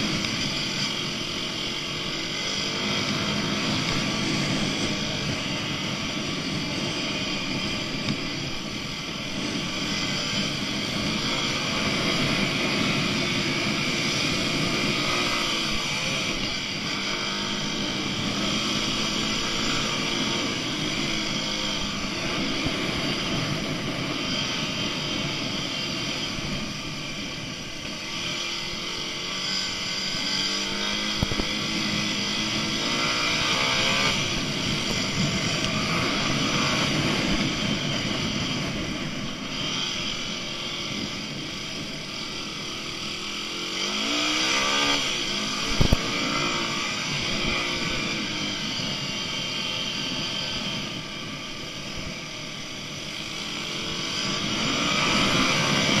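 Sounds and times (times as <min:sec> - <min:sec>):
dirt bike engines revving: 0:00.0 - 0:56.0
wind noise: 0:00.0 - 0:56.0.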